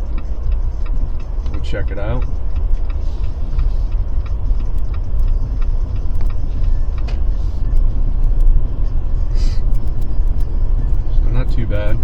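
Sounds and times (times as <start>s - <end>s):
car engine and tyres rumbling: 0.0s - 12.0s
light ticks: 0.0s - 12.0s.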